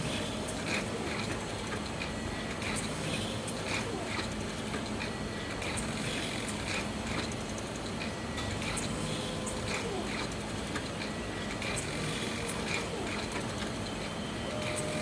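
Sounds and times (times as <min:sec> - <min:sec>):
analyzer machine whirring: 0:00.0 - 0:15.0.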